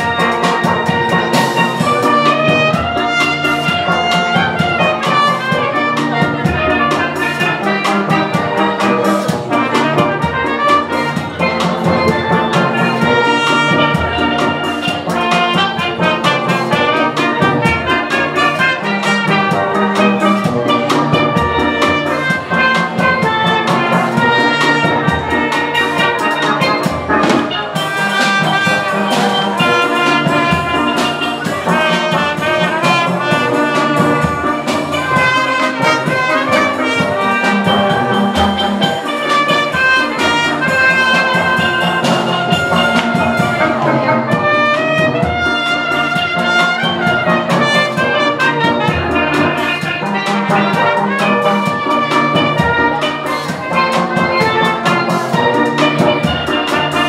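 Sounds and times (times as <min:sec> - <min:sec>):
drum kit groove: 0:00.0 - 0:57.0
trumpet melody: 0:00.0 - 0:57.0.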